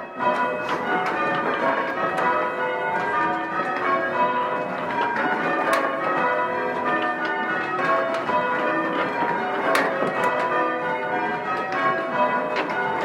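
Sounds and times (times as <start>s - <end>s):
church bells change ringing: 0.0s - 13.0s.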